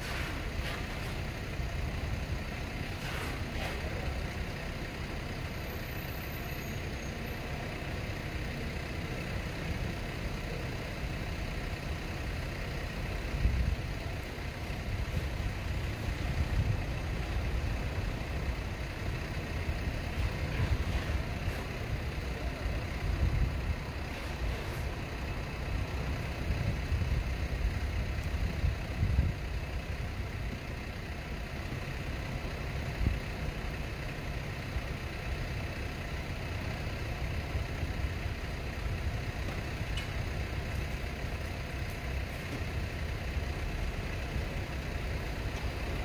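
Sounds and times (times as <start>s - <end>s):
low city ambience rumble: 0.0s - 46.0s.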